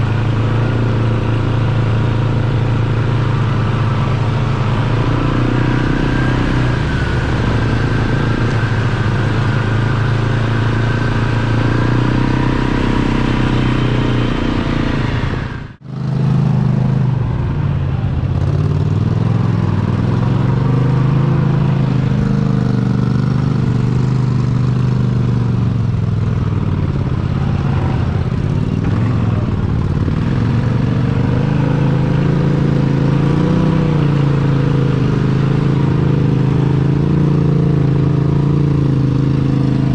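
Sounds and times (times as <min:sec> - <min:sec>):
truck engine running loud: 0:00.0 - 0:39.9.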